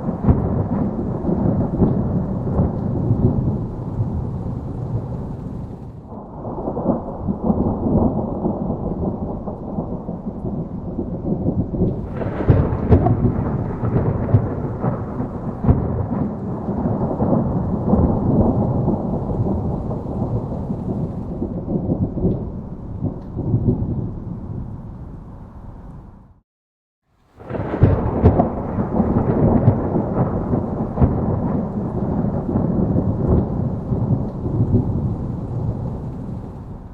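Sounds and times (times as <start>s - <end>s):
gentle rain: 0.0s - 26.1s, 27.0s - 36.9s
thunder rumbling: 0.0s - 26.4s, 27.2s - 36.9s.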